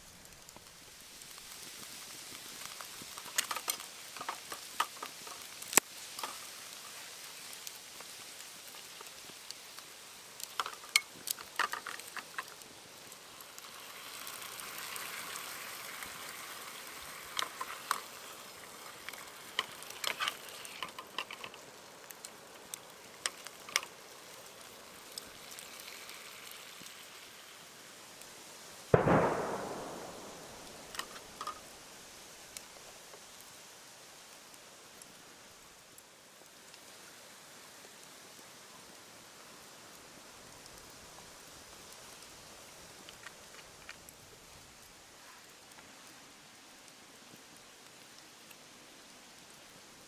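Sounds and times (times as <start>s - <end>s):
fire crackling pops: 0.0s - 50.0s
food sizzling over campfire: 0.0s - 50.0s.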